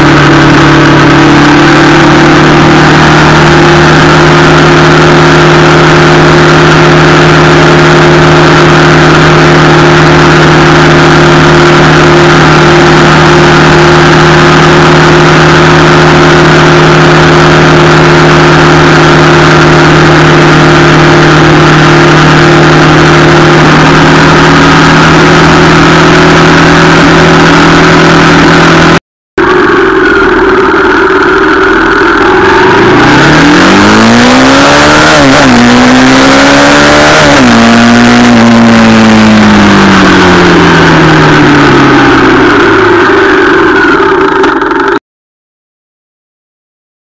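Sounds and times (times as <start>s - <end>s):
motorcycle engine cruising: 0.0s - 45.0s
wind and road noise: 0.0s - 45.0s.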